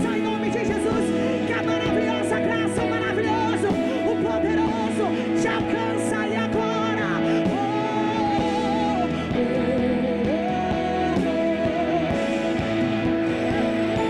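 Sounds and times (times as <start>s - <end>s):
band holding steady chords: 0.0s - 14.0s
person singing freely: 0.0s - 14.0s.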